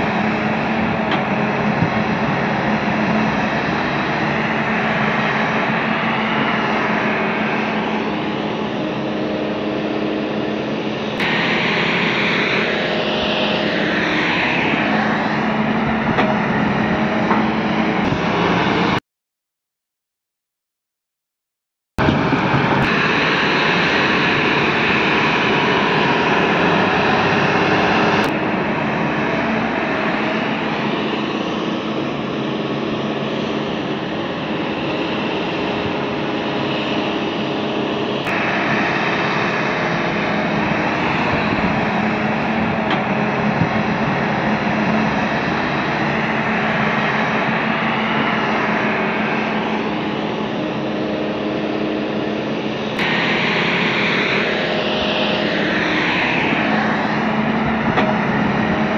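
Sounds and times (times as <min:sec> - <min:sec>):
heavy diesel machinery roaring: 0:00.0 - 0:19.0, 0:22.0 - 0:58.9.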